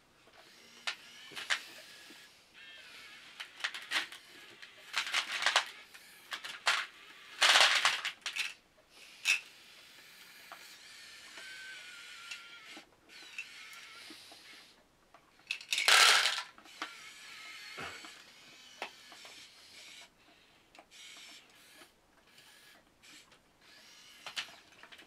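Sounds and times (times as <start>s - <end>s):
small motors whining: 0.2s - 14.8s, 16.6s - 25.0s.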